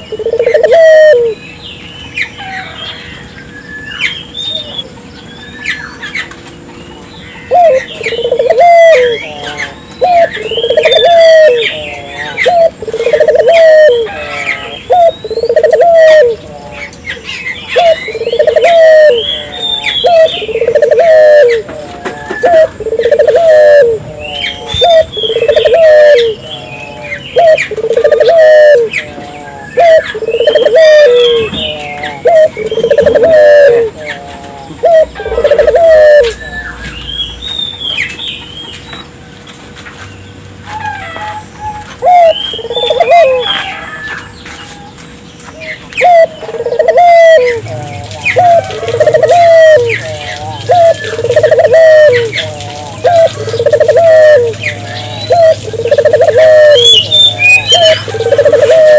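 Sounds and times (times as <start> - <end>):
doves cooing: 0.0 - 1.4, 7.3 - 37.4, 41.0 - 44.4, 45.7 - 58.9
small birds chirping: 3.8 - 39.2, 41.9 - 43.6, 45.0 - 58.9.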